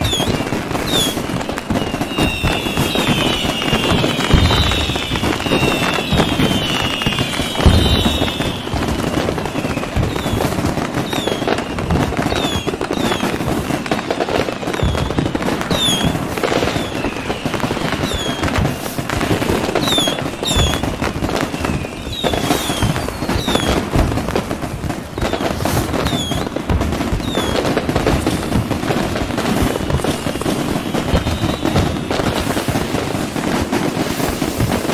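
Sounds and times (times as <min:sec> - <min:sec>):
fireworks bangs and crackling: 0:00.0 - 0:34.9
high firework chirps: 0:00.0 - 0:34.9.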